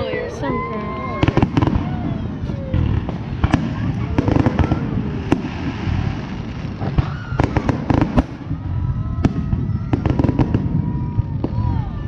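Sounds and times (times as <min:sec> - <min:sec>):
fireworks booming: 0:00.0 - 0:12.0
fireworks cracking: 0:00.0 - 0:12.0
fireworks whistling: 0:00.0 - 0:12.0.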